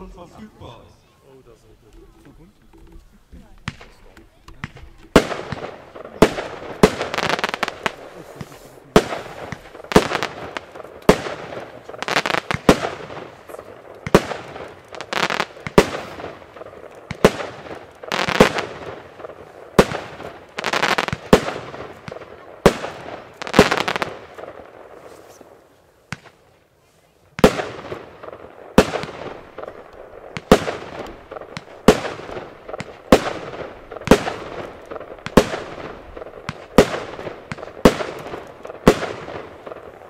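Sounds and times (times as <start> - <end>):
fireworks bangs: 0.0 - 26.4, 27.3 - 40.0
crackling of bursting fireworks: 0.0 - 40.0.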